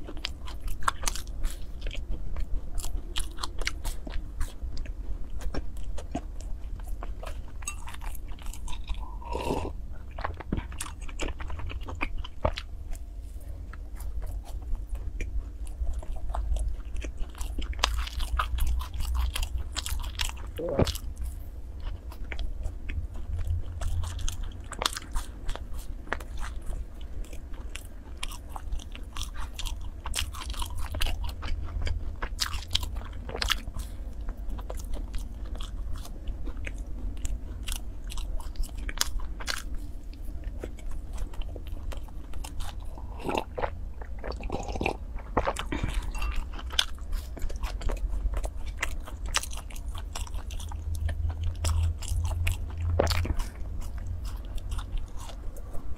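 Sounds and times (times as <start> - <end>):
chewing with crackling clicks: 0.0 - 55.9
low hum: 0.0 - 55.9.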